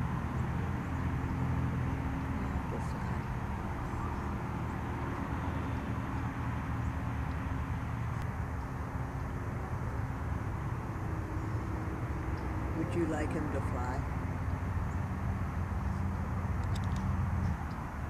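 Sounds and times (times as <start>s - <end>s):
distant engine drone: 0.0s - 18.0s
outdoor ambience: 0.0s - 18.0s.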